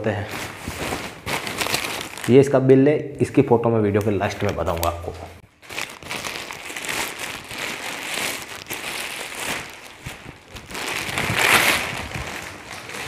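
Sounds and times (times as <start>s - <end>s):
plastic bag rustling and crinkling: 0.0s - 2.6s, 4.0s - 13.0s.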